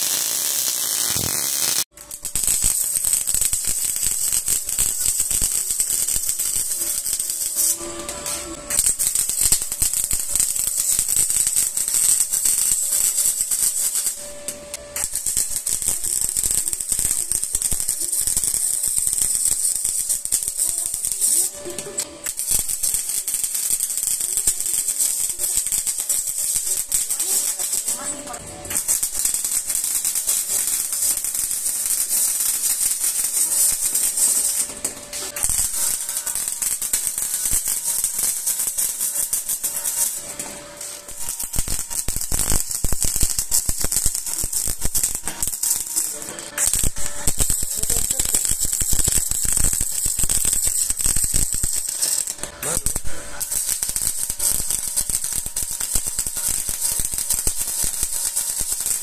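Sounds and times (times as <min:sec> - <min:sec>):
welding arc crackling: 0:00.0 - 0:59.0.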